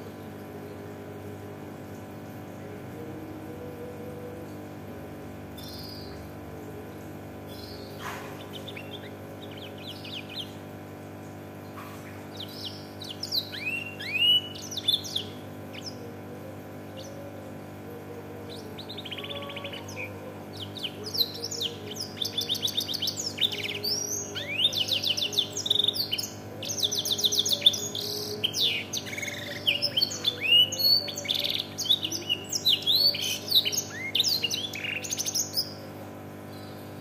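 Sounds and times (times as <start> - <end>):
steady low hum: 0.0 - 37.0
canary singing trills: 5.4 - 37.0.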